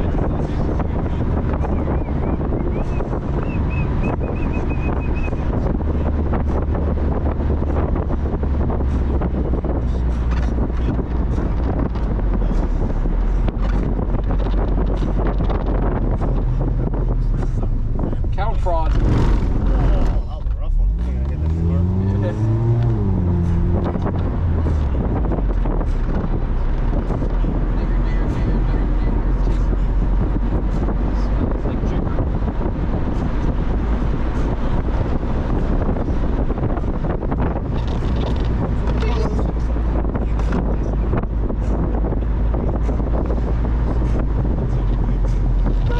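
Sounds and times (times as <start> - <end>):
engine and tyre rumble: 0.0 - 45.9
wind buffeting microphone: 0.0 - 45.9.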